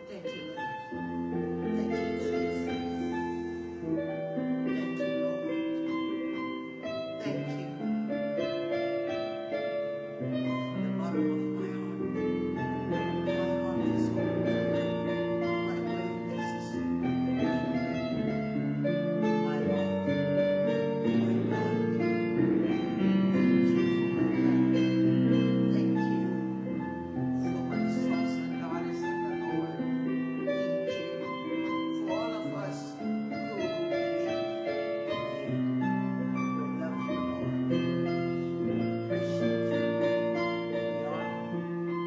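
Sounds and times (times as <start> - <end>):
slow piano-like keyboard music: 0.0 - 42.0.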